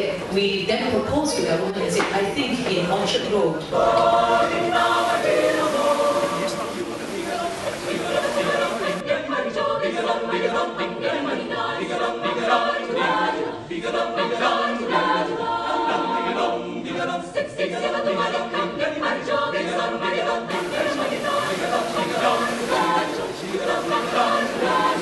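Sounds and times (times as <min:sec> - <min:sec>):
choir singing: 0:03.1 - 0:25.0.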